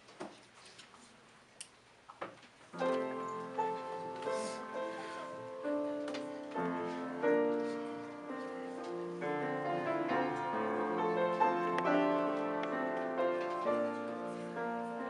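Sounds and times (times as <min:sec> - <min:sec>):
grand piano ballad: 0:02.8 - 0:15.0.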